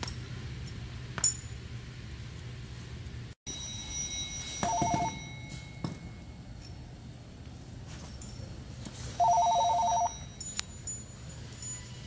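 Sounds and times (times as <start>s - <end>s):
low shop hum: 0.0s - 12.0s.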